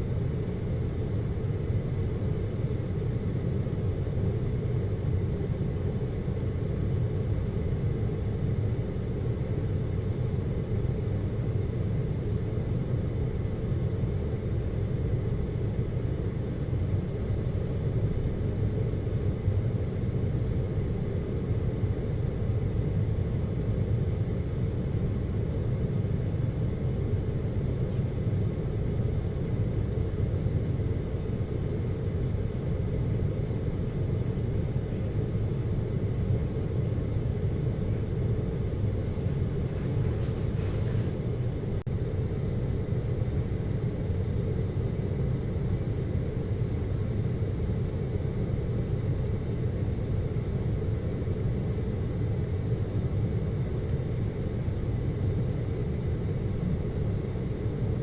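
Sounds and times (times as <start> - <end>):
faint thin whine: 0.0 - 58.0.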